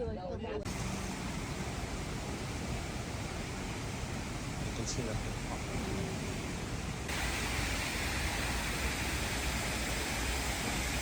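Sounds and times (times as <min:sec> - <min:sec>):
steady rushing noise: 0:00.7 - 0:11.0.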